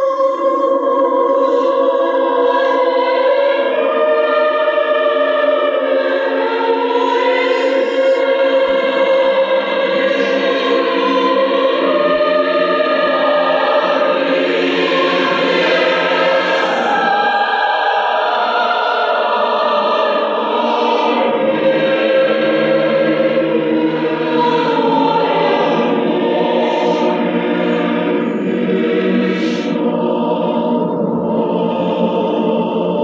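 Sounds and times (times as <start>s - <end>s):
choir singing chords: 0.0s - 33.0s.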